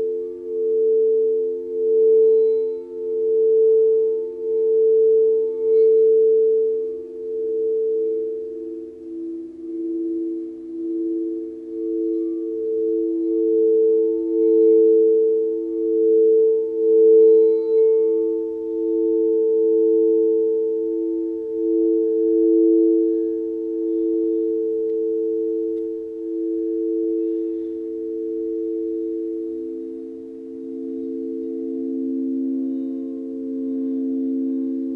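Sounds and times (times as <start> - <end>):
low steady sound-healing tones: 0.0 - 34.9.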